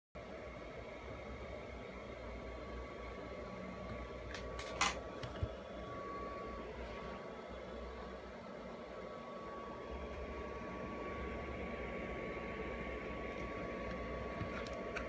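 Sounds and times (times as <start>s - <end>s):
low hum: 0.2s - 15.0s.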